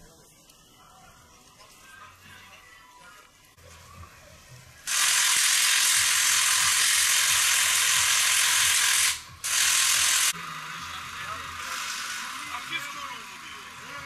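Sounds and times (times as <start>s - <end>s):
loud steady hissing: 0.0s - 14.0s.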